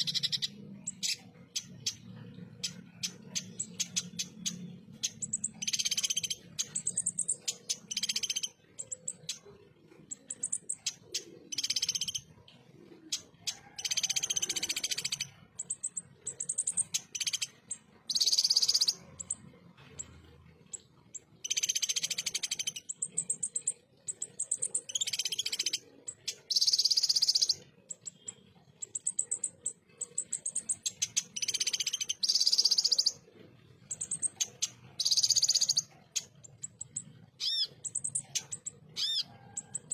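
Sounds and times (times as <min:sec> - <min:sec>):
high bird trills: 0:00.0 - 0:09.5, 0:13.0 - 0:20.2, 0:20.8 - 0:39.9
bird singing harsh rapid phrases: 0:00.0 - 0:39.9.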